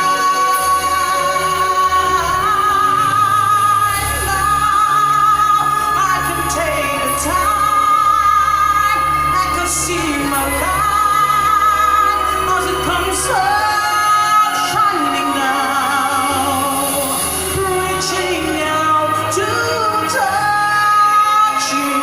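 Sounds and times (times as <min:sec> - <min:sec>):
steady bass line: 0:00.0 - 0:22.0
woman singing pop song: 0:00.0 - 0:22.0.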